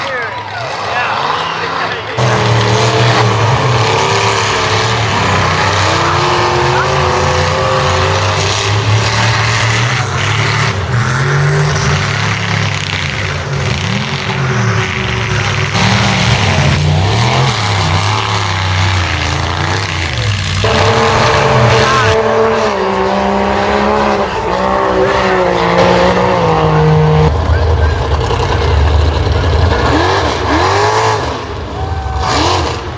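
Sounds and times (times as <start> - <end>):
truck engine revving hard: 0.0 - 32.9
engine running steadily: 1.8 - 32.9.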